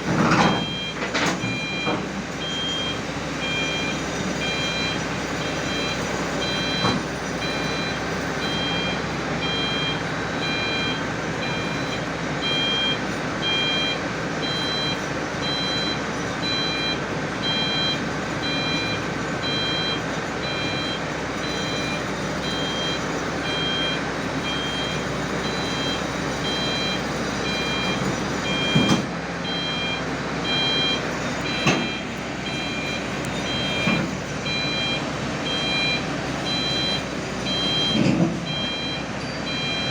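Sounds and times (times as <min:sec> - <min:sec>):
diesel engine running: 0:00.0 - 0:39.9
travel alarm beeping: 0:00.4 - 0:39.9.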